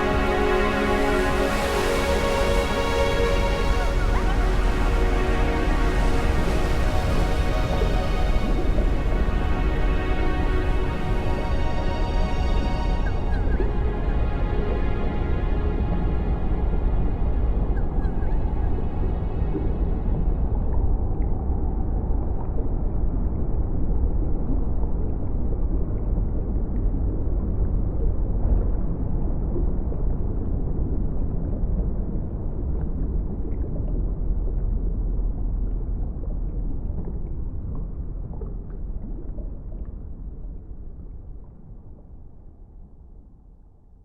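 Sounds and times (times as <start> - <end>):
low steady rumble: 0.0 - 44.0.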